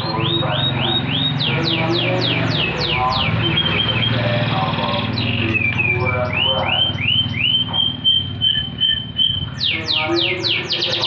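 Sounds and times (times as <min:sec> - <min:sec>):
songbird whistling: 0:00.0 - 0:11.0.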